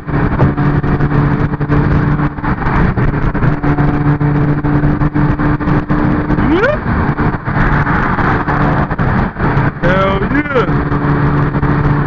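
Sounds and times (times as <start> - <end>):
car engine drone: 0.0 - 12.0
road and wind noise: 0.0 - 12.0.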